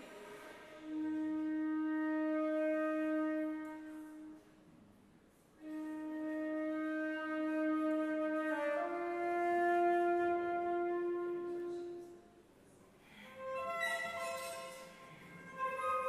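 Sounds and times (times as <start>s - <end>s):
flute playing long notes: 0.7s - 4.5s, 5.6s - 12.4s, 13.3s - 16.0s.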